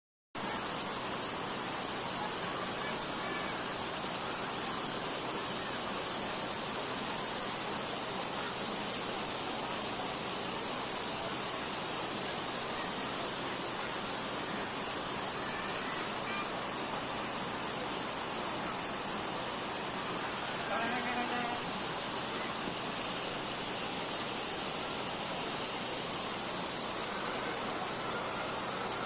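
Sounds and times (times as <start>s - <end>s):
waterfall roaring: 0.4s - 29.0s.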